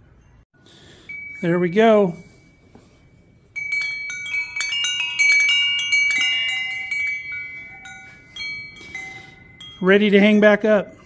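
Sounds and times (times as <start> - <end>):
tubular wind chime ringing: 0.2 - 11.0.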